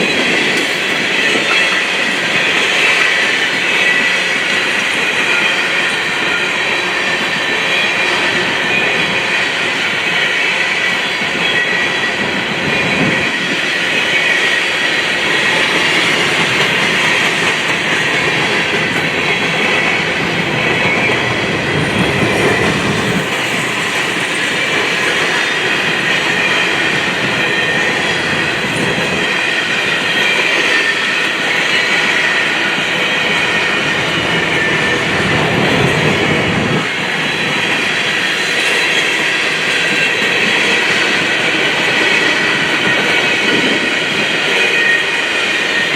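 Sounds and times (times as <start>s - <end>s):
freight train wheels on rail: 0.0s - 45.9s.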